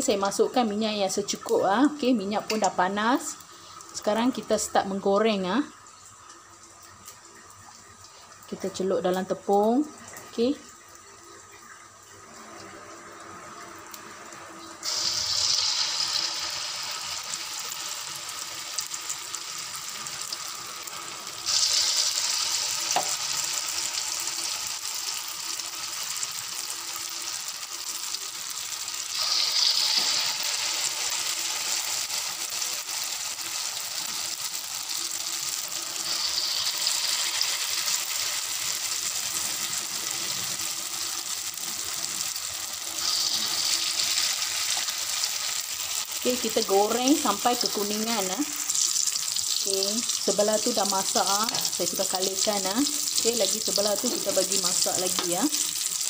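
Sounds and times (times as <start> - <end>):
batter balls sizzling in hot oil: 0.0 - 56.0.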